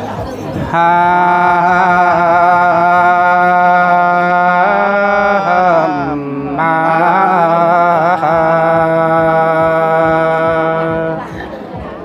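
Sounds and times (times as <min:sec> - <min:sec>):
person singing unaccompanied: 0:00.5 - 0:11.4.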